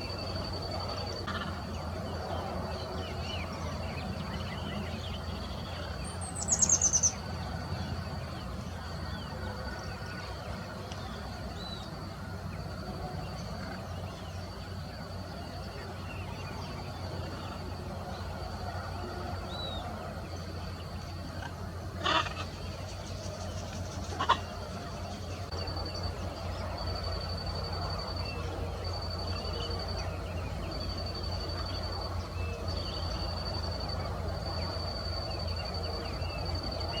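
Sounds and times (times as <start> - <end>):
high-pitched whine: 0.0 - 37.0.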